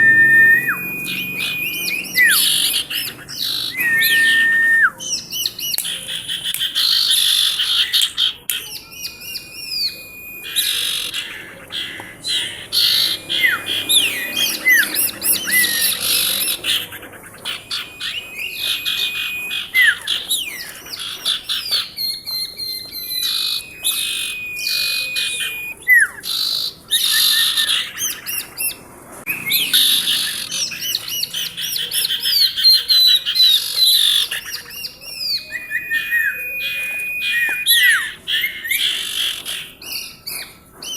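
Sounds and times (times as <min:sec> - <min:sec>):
bird whistled note: 0:00.0 - 0:28.7, 0:29.3 - 0:40.5
songbird chirps and trills: 0:00.0 - 0:40.9.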